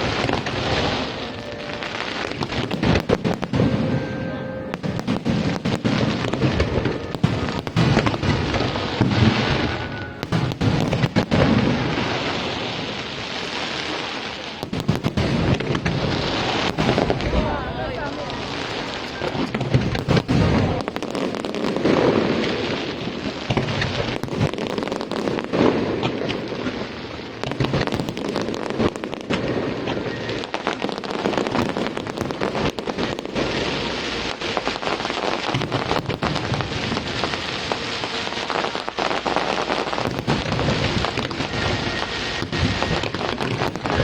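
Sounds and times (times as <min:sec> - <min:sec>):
fireworks crackling: 0:00.0 - 0:44.0
heavy firework bangs: 0:00.0 - 0:44.0.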